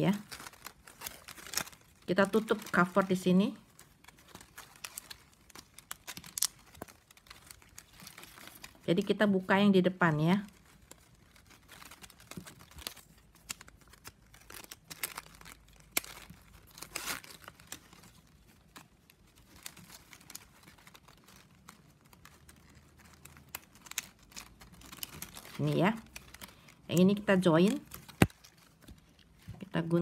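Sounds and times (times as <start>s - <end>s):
plastic strapping crinkling and clicking: 0.0s - 30.0s.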